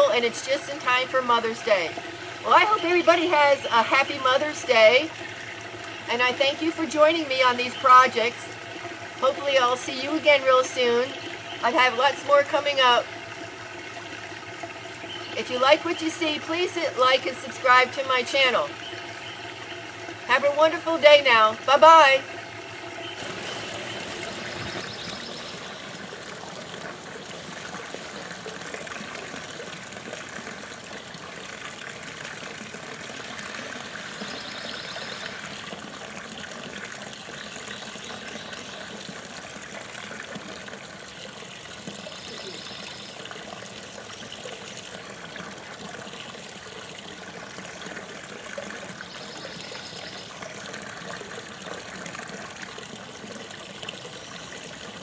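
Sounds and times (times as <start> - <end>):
fountain water trickling: 0.0 - 55.0.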